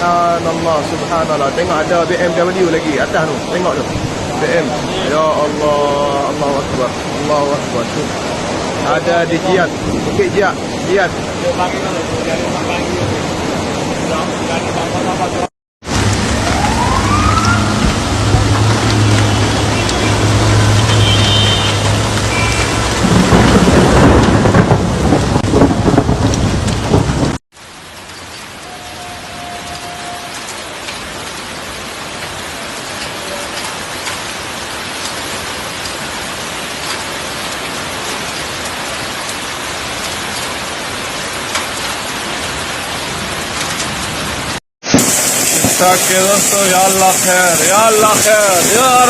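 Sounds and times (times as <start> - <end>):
heavy rain: 0.0 - 49.0.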